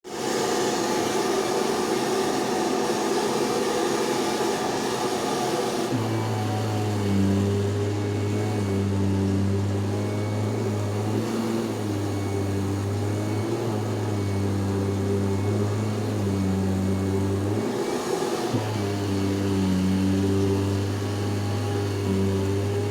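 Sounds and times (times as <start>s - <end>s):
vacuum cleaner motor running: 0.0s - 22.9s.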